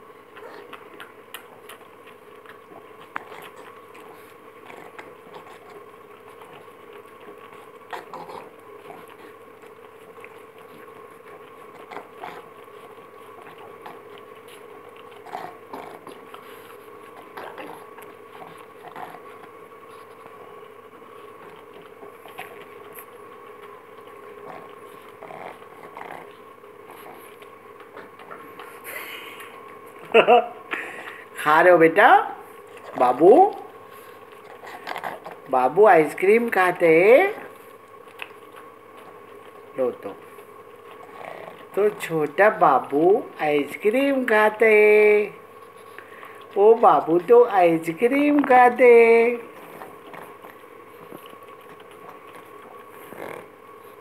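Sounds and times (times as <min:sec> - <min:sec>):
steady background hum: 0:00.0 - 0:54.0
dog licking and biting ice lolly: 0:00.3 - 0:30.0, 0:32.7 - 0:54.0.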